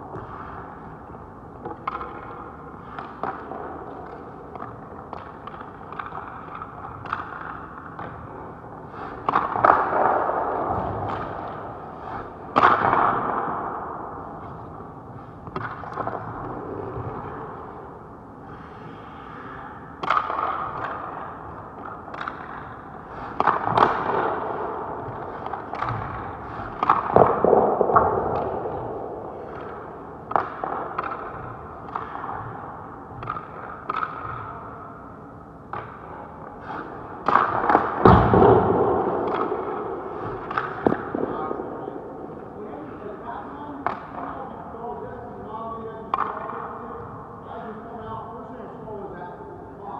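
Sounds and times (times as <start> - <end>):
hockey pucks and sticks cracking: 0.0 - 44.6, 46.1 - 46.8.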